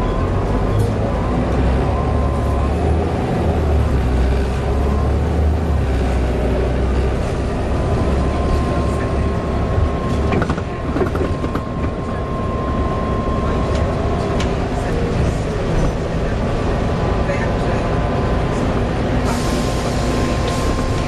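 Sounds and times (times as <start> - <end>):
diesel bus engine rumbling: 0.0 - 21.0.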